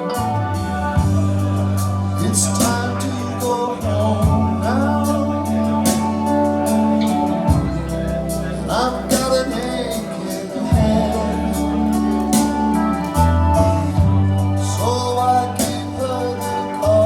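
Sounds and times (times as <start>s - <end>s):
recorded music over loudspeakers: 0.0s - 17.0s.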